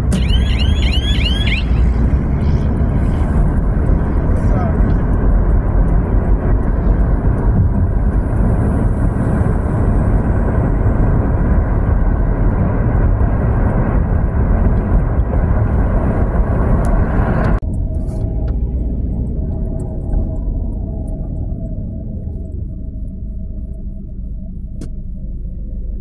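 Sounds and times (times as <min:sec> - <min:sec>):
car road and wind noise: 0:00.0 - 0:26.0.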